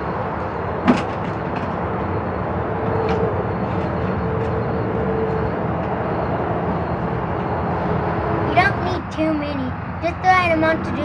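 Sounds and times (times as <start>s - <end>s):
low outdoor background rumble: 0.0s - 11.0s.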